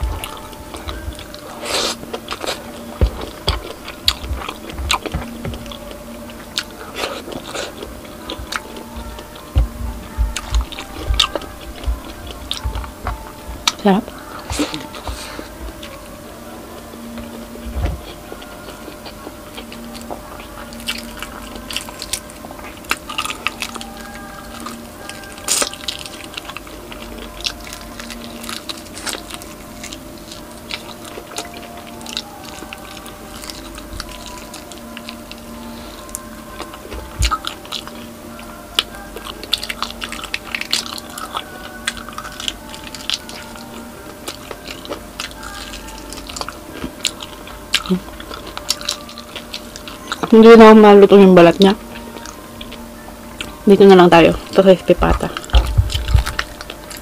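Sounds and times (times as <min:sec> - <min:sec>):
crunching and chewing crispy skin: 0:00.0 - 0:57.0.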